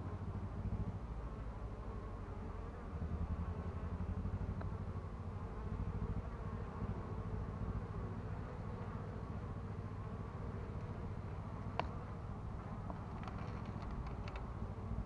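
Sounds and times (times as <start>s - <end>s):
honeybees buzzing: 0.4s - 15.0s.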